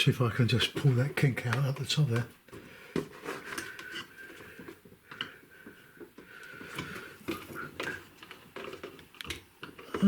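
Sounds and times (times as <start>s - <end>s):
faint taps and scrapes: 0.6s - 10.0s.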